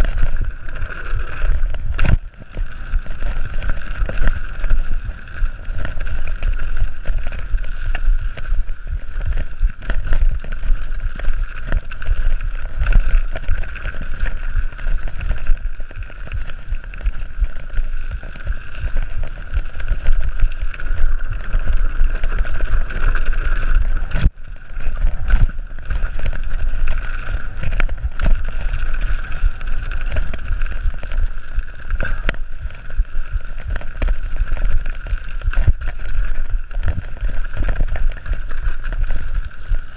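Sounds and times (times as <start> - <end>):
bike knocking and rattling: 0.0 - 39.9
bike tyre noise: 0.0 - 39.9
wind buffeting microphone: 0.0 - 39.9.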